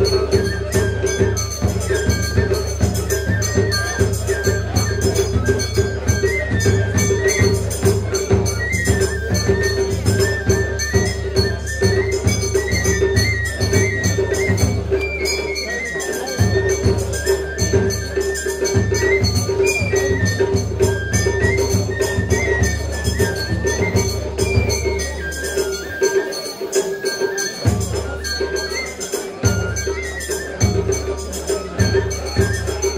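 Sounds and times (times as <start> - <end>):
drum beats: 0.0 - 32.9
high flute melody: 0.0 - 32.9
metal percussion beats: 0.0 - 32.9.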